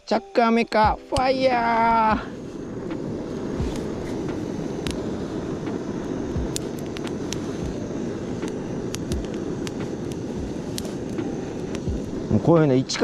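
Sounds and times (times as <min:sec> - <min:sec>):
burning twigs crackling: 0:00.1 - 0:13.0
gas torch burner blowing: 0:00.7 - 0:13.0.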